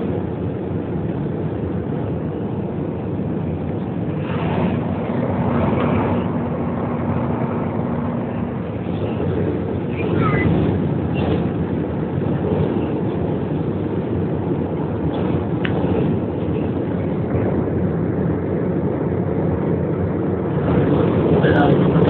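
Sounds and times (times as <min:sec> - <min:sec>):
airliner engines and airflow rushing: 0:00.0 - 0:22.0.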